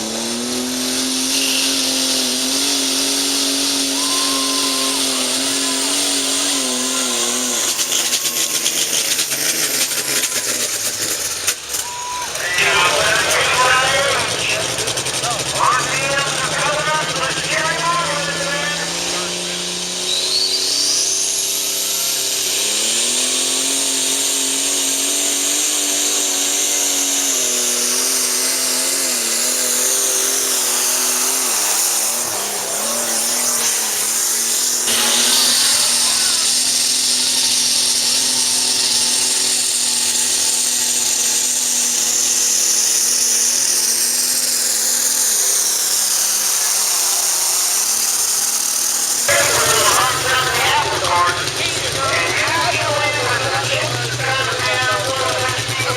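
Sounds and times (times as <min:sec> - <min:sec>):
tractor engine at full revs: 0:00.0 - 0:55.9
turbocharger whine: 0:00.0 - 0:55.9.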